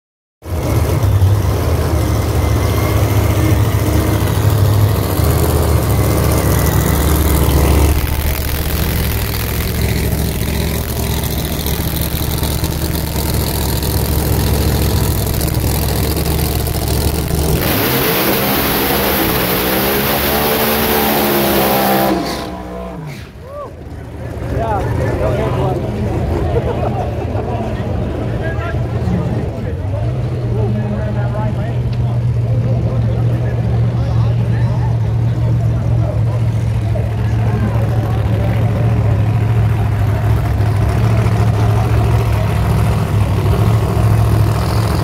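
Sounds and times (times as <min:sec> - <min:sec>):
race car engine revving: 0:00.4 - 0:23.4, 0:27.9 - 0:45.0
spinning tyre noise: 0:00.4 - 0:45.0.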